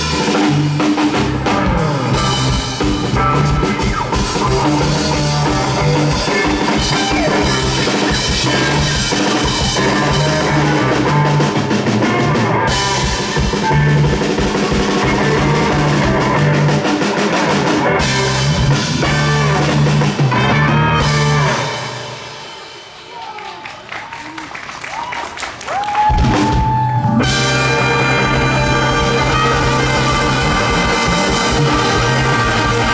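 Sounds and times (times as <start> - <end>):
bass guitar: 0.0 - 22.6, 26.1 - 32.9
live rock band playing: 0.0 - 23.3, 26.0 - 32.9
drum kit: 0.0 - 23.5, 25.7 - 32.9.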